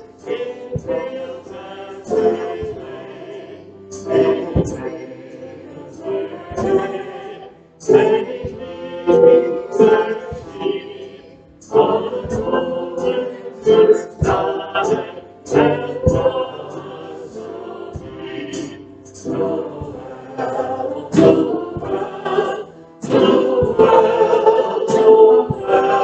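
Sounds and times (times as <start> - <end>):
group singing through microphones: 0.0 - 26.0.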